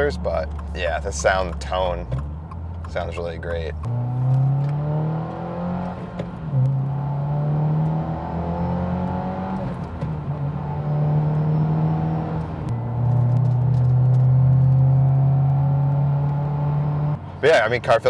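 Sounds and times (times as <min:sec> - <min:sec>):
car engine accelerating: 0:00.0 - 0:17.5.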